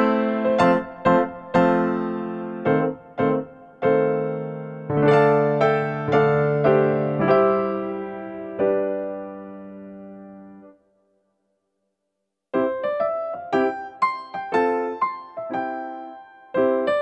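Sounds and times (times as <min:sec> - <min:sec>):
slow piano-like keyboard tune: 0:00.0 - 0:11.2, 0:12.5 - 0:17.0.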